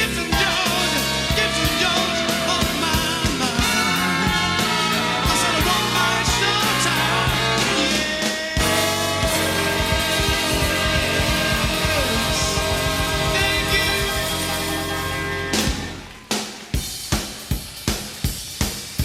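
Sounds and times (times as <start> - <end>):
live soul band music: 0.0 - 19.0.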